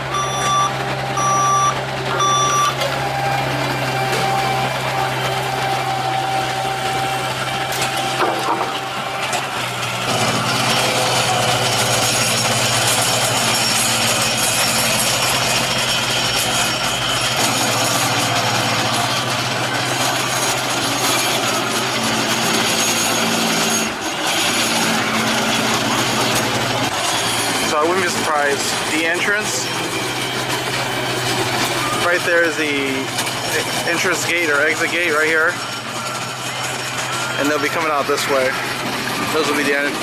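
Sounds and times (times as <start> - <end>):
construction vehicle engine running: 0.0 - 40.0.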